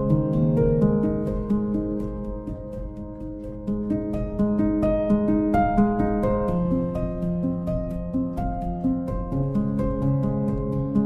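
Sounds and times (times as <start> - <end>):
gentle solo piano: 0.0 - 11.0.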